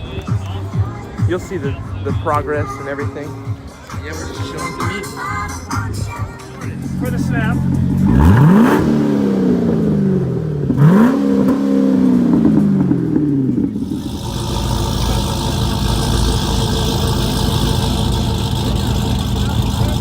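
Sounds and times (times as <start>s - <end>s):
steady engine drone: 1.8s - 20.0s
car engine revving: 3.6s - 20.0s.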